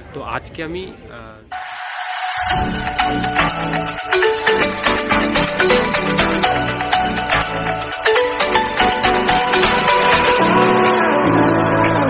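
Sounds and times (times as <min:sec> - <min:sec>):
upbeat electronic music: 0:01.5 - 0:12.0.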